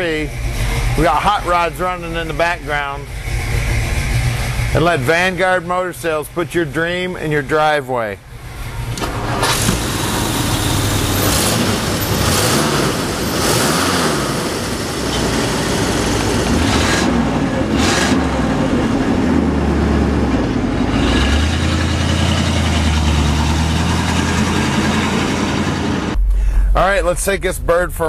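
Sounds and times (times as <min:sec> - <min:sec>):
car engine idling: 0:00.0 - 0:28.0
car engines in background: 0:00.0 - 0:28.0.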